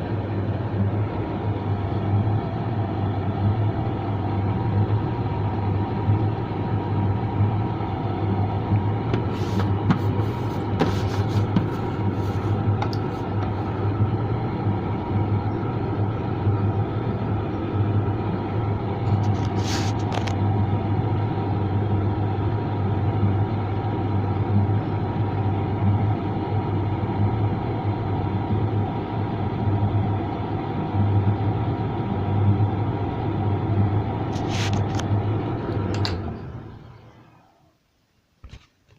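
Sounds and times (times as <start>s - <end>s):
tumble dryer droning: 0.0s - 37.6s.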